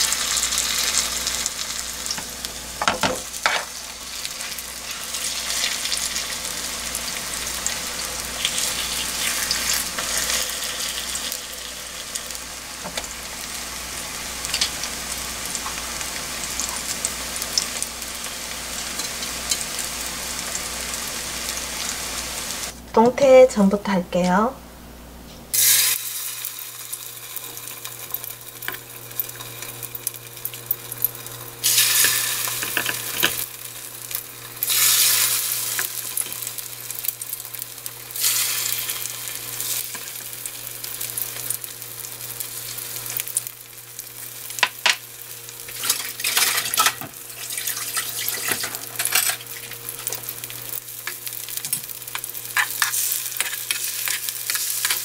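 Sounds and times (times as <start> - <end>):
fish fillets sizzling in oil: 0.0 - 22.8, 25.5 - 55.0.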